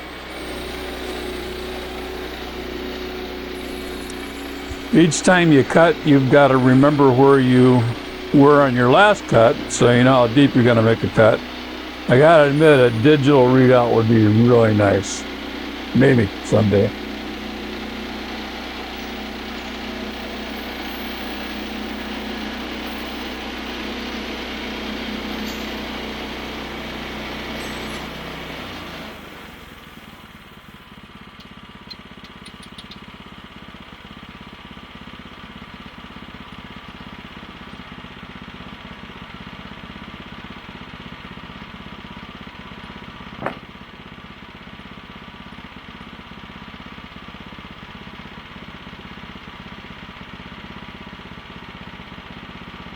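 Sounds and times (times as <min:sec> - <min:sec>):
sawmill gasoline engine running: 0:00.0 - 0:52.9.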